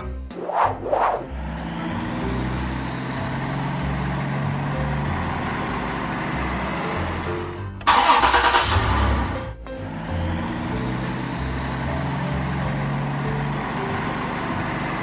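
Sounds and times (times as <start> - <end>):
background music with bass line: 0.0 - 7.9, 8.8 - 15.0
truck engine running: 1.2 - 15.0.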